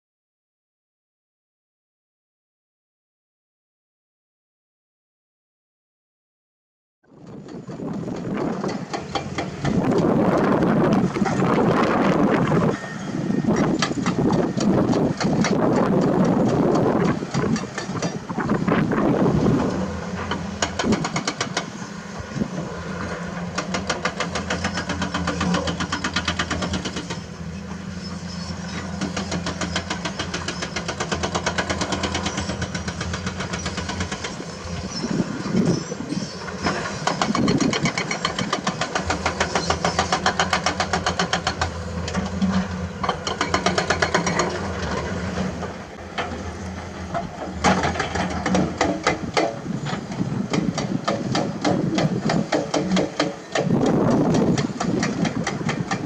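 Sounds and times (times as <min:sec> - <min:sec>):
excavator engine pulsing: 0:07.2 - 0:56.0.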